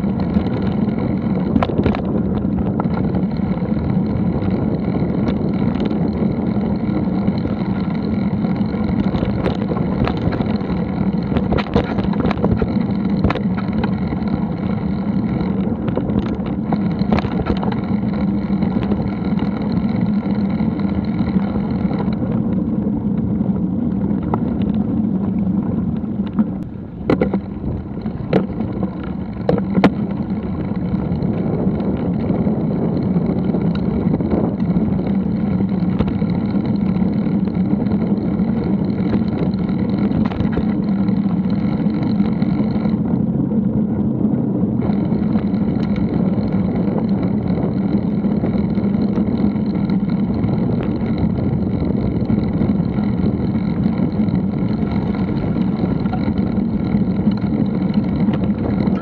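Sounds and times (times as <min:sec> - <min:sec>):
bicycle tyres rumbling on dirt: 0:00.0 - 0:59.0.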